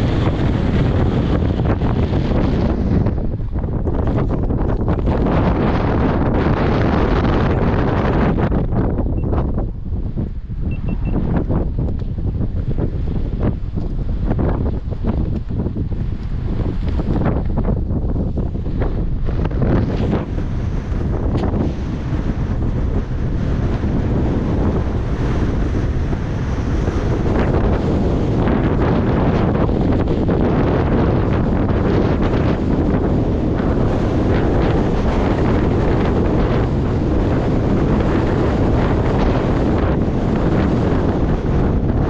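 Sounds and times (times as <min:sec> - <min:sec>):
snowmobile engine rumble: 0:00.0 - 0:42.0
wind buffeting microphone: 0:00.0 - 0:42.0.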